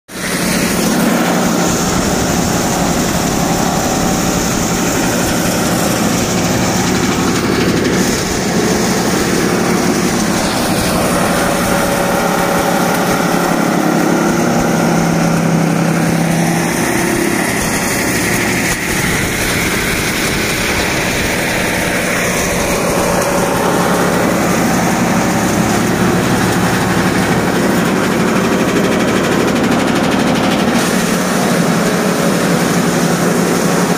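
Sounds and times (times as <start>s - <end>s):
tractor engine under load: 0.1s - 33.9s
wood-cutting machine chipping logs: 0.1s - 33.9s.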